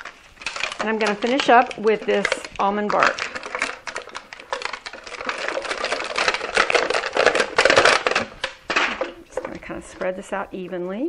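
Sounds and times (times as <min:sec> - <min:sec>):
candy cubes clattering into a pot: 0:00.0 - 0:10.7.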